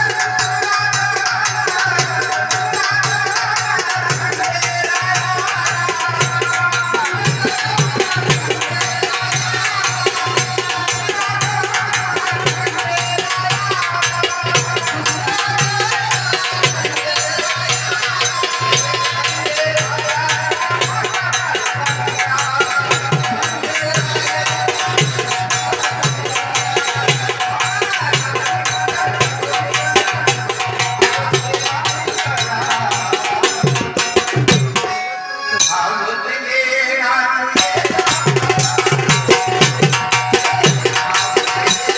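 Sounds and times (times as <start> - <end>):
rattling percussion: 0.0 - 36.1, 37.6 - 41.9
person singing: 0.0 - 41.9.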